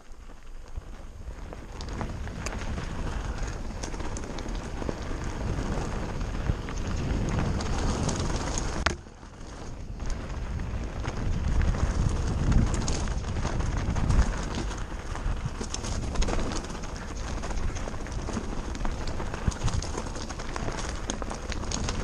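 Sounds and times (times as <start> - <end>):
bike tyres on dirt trail: 0.0 - 22.0
stones and bike rattling: 0.0 - 22.0
wind rumbling on microphone: 0.0 - 22.0.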